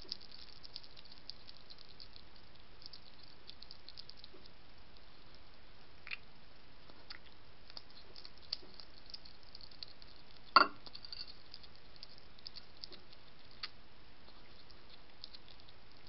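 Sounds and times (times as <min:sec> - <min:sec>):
hedgehog crunching dry kibble: 0:00.0 - 0:16.0.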